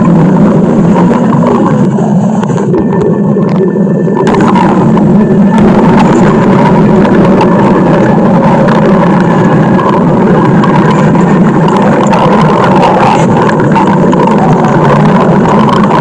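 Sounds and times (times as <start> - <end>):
stomach growling: 0.0 - 16.0.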